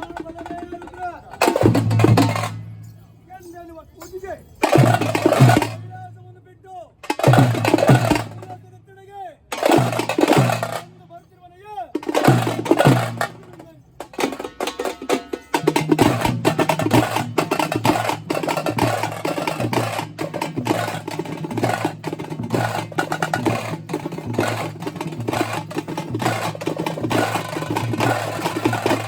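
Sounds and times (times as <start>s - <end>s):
frame drums beaten with sticks: 0.0s - 2.7s, 4.6s - 6.1s, 7.0s - 8.6s, 9.5s - 11.0s, 11.9s - 29.0s.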